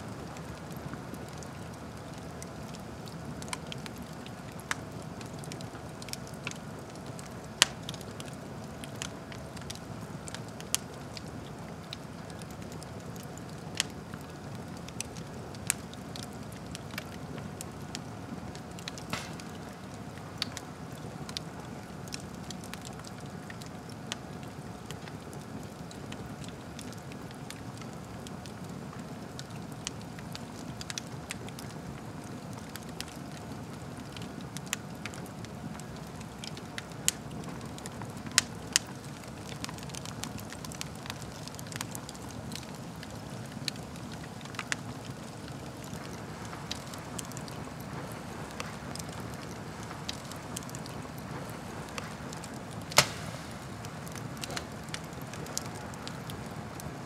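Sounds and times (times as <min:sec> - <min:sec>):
wood fire crackling: 0:00.0 - 0:57.0
sharp pops of burning logs: 0:00.1 - 0:25.2, 0:34.1 - 0:56.9.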